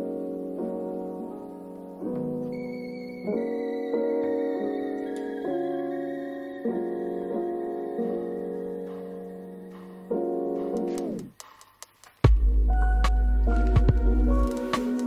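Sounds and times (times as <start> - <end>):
slow piano chords: 0.0 - 11.4, 12.4 - 15.0.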